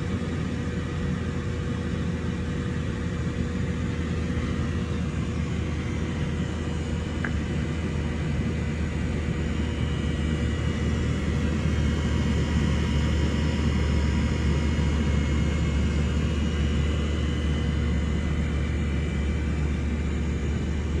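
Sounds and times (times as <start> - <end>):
faint engine whine: 0.0 - 21.0.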